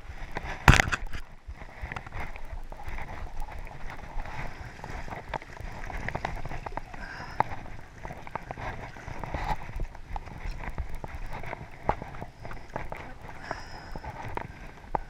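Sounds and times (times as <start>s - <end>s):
shallow river water splashing: 0.0s - 15.0s
sharp splashes and knocks: 0.3s - 13.1s.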